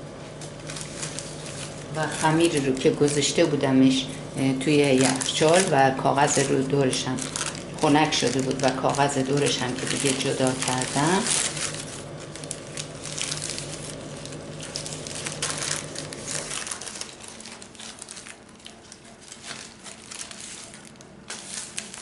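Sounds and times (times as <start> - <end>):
low steady hum: 0.0 - 22.0
wrapping sheet crinkling: 0.2 - 22.0.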